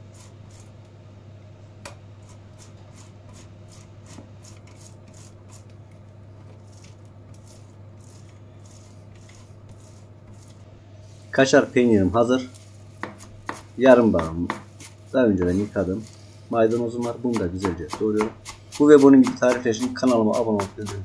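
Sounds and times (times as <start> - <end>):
cheese grating strokes: 0.0 - 0.8, 2.2 - 5.8, 6.4 - 21.0.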